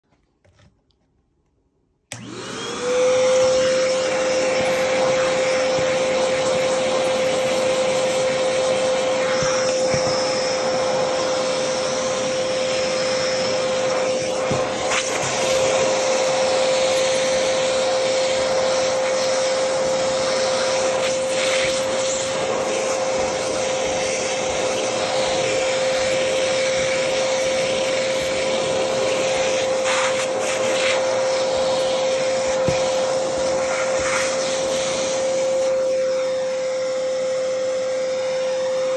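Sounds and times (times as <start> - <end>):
vacuum cleaner motor whine: 2.1 - 38.9.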